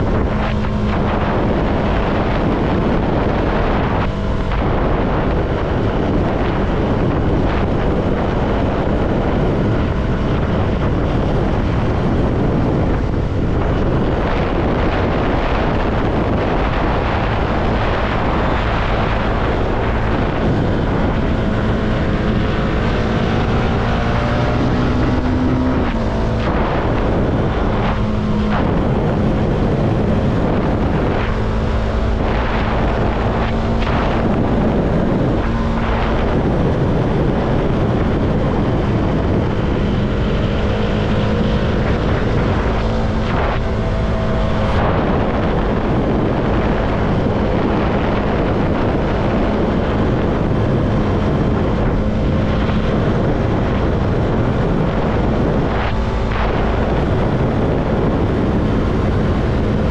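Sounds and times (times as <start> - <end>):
motorcycle engine running: 0.0 - 59.9
wind rush: 0.0 - 59.9.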